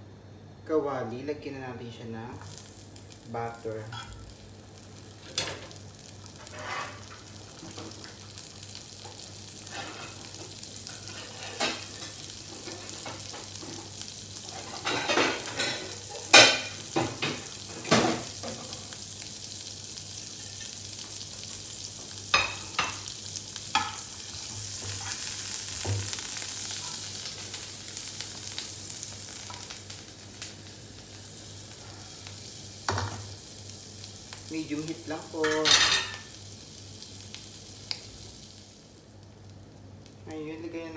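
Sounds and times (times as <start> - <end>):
butter sizzling in a frying pan: 2.2 - 40.9.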